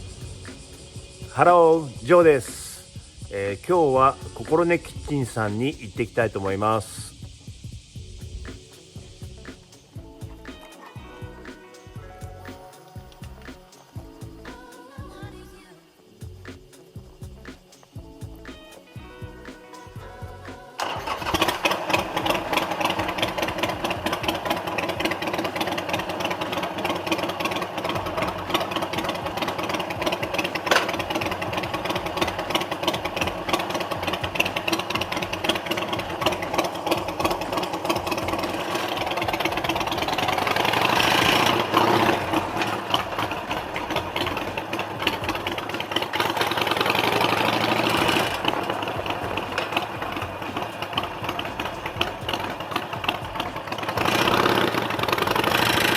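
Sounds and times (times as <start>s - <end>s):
motorcycle engine running: 0.0s - 15.6s, 16.2s - 55.9s.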